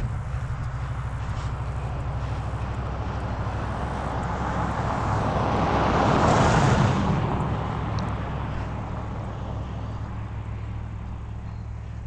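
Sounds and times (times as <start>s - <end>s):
truck driving past: 0.0s - 12.0s.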